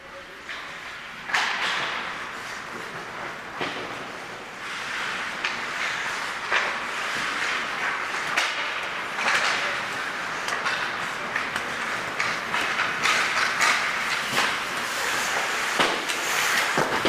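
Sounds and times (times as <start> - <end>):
hockey sticks and puck clacking: 0.2 - 17.0
skates scraping on ice: 0.3 - 17.0.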